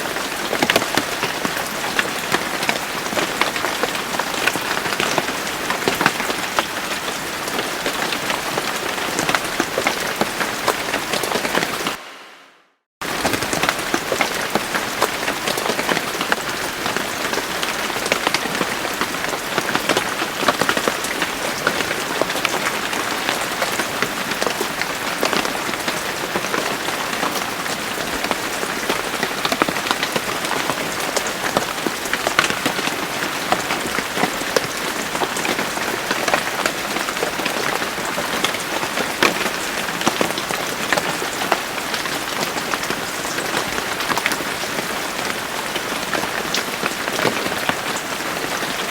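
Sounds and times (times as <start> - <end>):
heavy rain falling: 0.0 - 12.4, 13.0 - 48.9.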